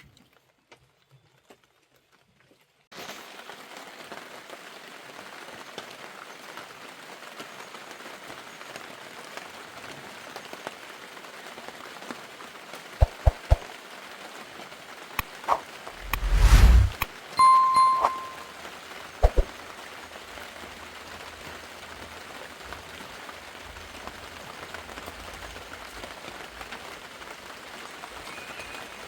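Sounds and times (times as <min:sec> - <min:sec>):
rain falling on a surface: 0:00.0 - 0:15.9, 0:18.5 - 0:29.0.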